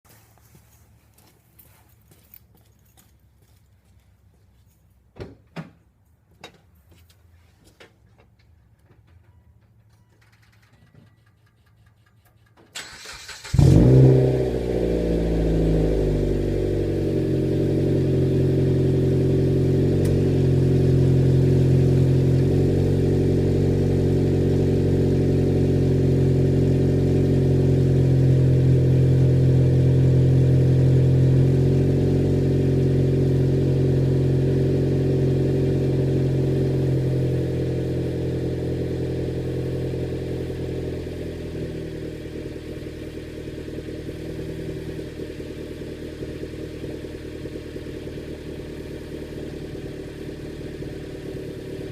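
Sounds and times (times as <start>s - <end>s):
car engine starting and idling: 8.2s - 51.9s.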